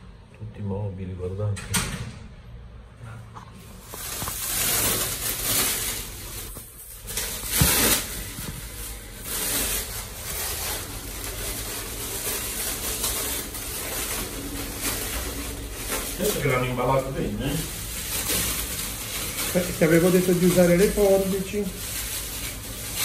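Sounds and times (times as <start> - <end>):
plastic wrap rustling and crinkling: 3.4 - 23.0.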